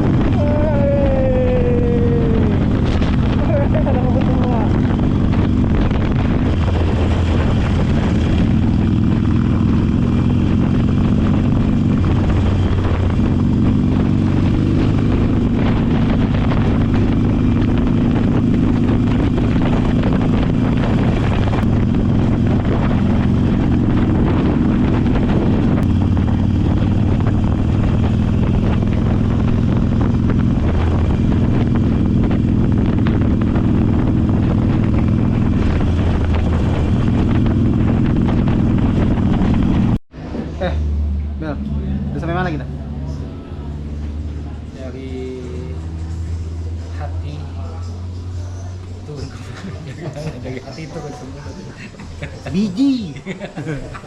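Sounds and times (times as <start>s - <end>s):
motorcycle engine running: 0.0s - 51.2s.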